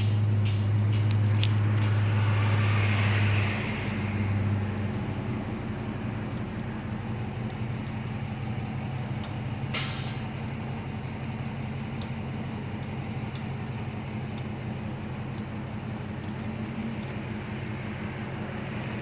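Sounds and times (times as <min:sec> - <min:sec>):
brake clicking: 0:00.0 - 0:02.4, 0:03.2 - 0:17.4, 0:18.6 - 0:19.0
car running hum: 0:00.0 - 0:19.0.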